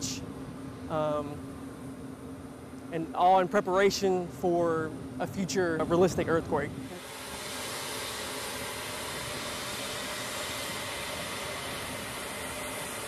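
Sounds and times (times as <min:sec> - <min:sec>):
jet turbines running: 0:00.0 - 0:13.0.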